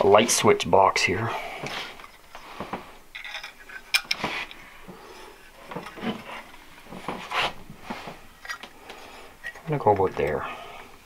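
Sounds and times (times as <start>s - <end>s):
soft handling rustling: 1.5s - 11.0s.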